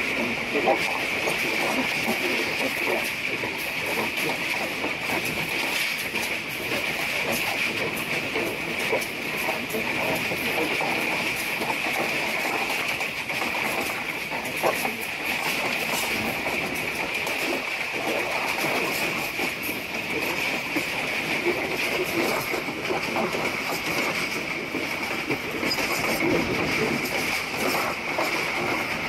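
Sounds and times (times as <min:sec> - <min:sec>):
train carriage rumbling and rattling: 0:00.0 - 0:29.0.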